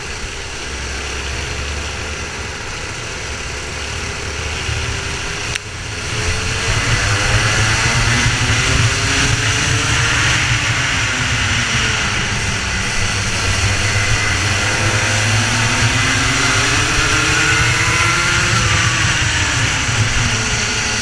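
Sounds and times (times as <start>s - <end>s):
kart engine accelerating: 0.0s - 21.0s.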